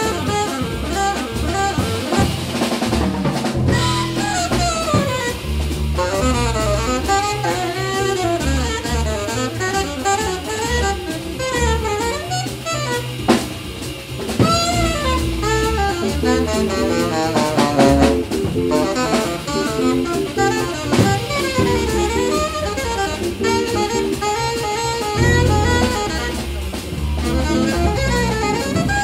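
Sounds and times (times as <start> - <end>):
alto saxophone solo: 0.0 - 3.0, 3.6 - 29.0
drum kit: 0.0 - 29.0
upright bass: 0.0 - 29.0.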